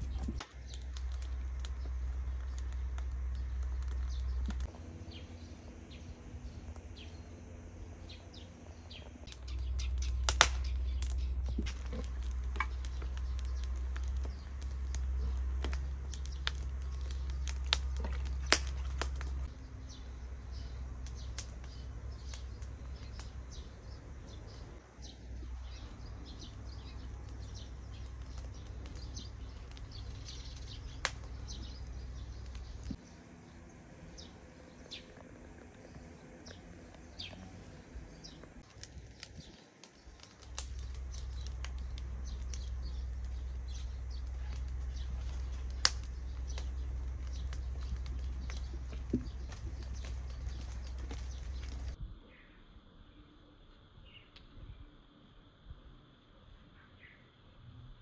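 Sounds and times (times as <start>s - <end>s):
low steady rumble: 0.0s - 52.3s
songbirds chirping: 0.0s - 58.0s.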